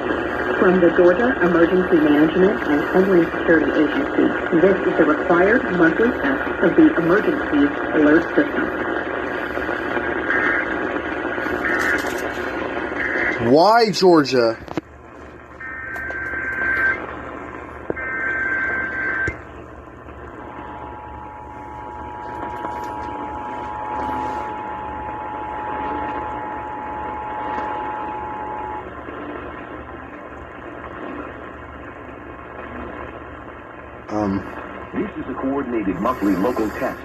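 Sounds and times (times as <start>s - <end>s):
radio static hiss: 0.0s - 37.0s.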